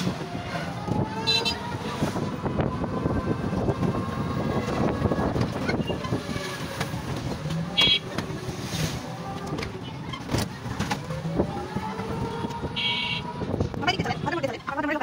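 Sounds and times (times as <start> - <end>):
vehicle road rumble: 0.0 - 15.0.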